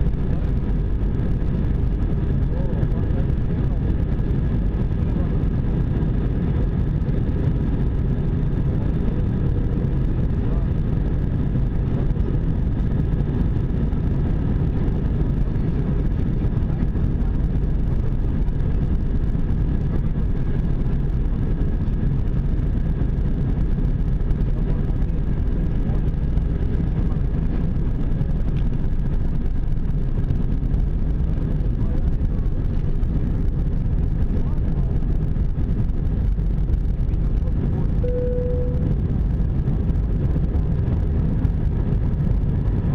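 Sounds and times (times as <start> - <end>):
faint engine whine: 0.0 - 42.9
jet engine cabin rumble: 0.0 - 42.9.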